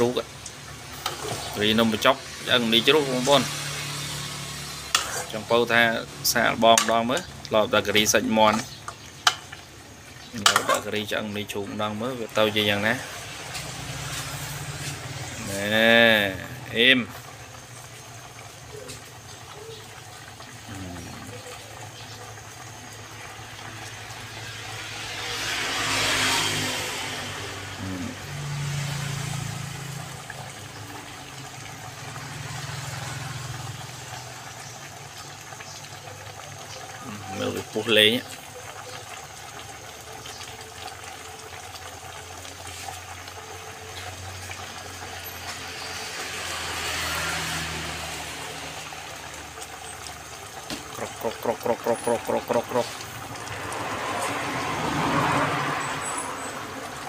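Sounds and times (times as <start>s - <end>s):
curry simmering and bubbling in a pot: 0.0s - 57.0s.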